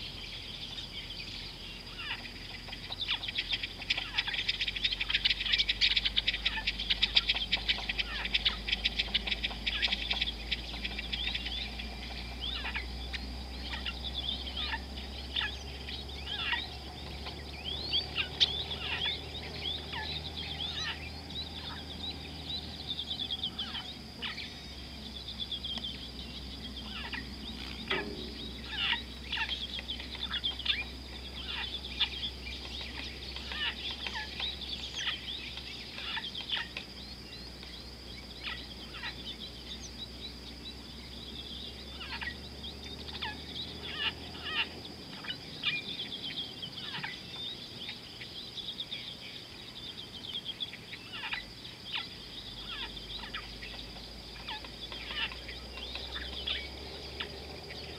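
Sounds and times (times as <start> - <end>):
wild birds chirping and whistling: 0.0 - 57.9.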